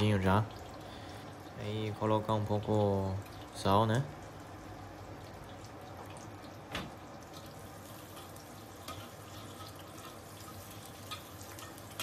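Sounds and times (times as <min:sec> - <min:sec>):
leek sizzling in oil: 0:00.0 - 0:12.0.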